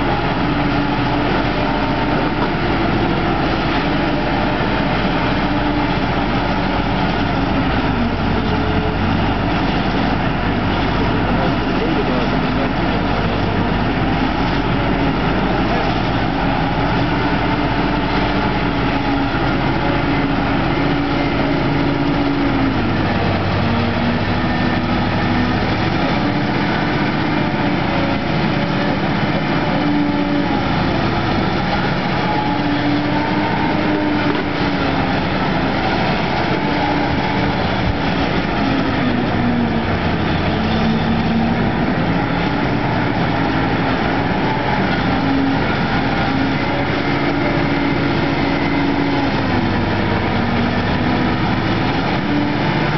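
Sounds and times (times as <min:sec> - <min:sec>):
diesel loader engine under load: 0:00.0 - 0:52.9.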